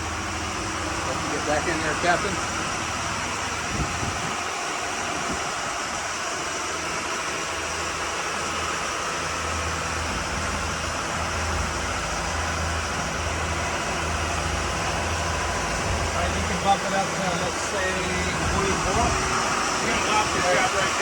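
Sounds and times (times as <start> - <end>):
boat engines droning: 0.0 - 21.0
broad water rush: 0.0 - 21.0.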